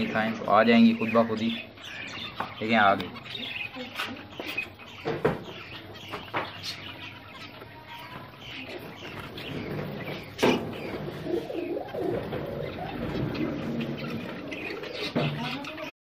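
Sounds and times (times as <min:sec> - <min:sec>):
birds calling and chirping: 0:00.0 - 0:16.0.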